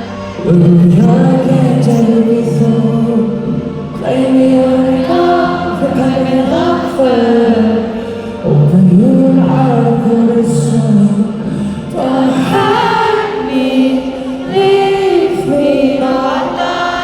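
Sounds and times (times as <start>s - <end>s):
live pop concert music: 0.0s - 17.0s
many voices singing held notes: 0.0s - 17.0s.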